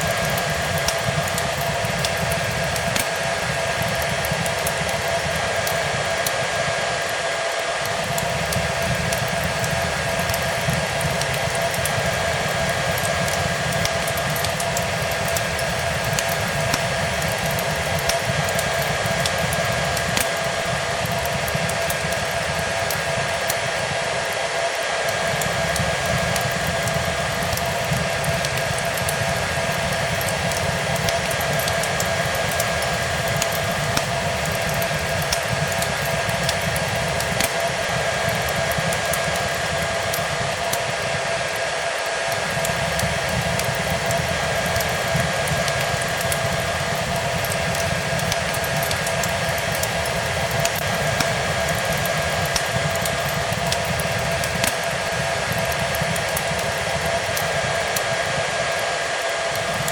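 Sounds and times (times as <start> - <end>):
fireplace crackling: 0.0 - 24.3, 25.1 - 58.8
hair dryer whining: 0.0 - 59.9.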